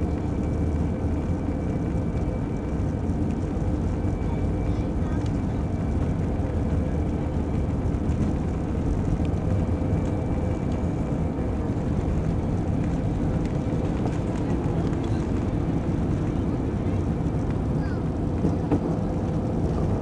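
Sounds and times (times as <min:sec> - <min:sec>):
jet engine and airflow noise: 0:00.0 - 0:20.0.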